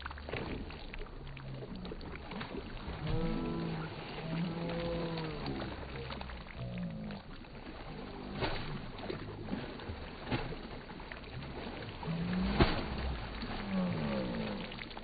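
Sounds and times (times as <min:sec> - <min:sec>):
swimming splashes: 0:00.0 - 0:15.0.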